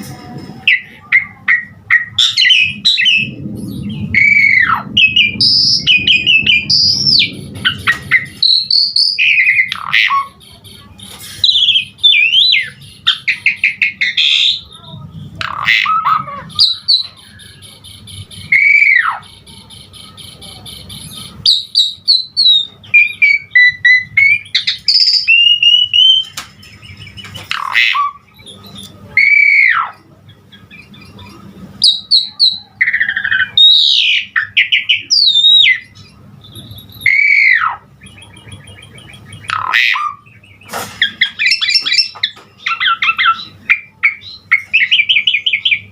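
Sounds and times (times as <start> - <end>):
starling singing varied song: 0.0 - 45.9.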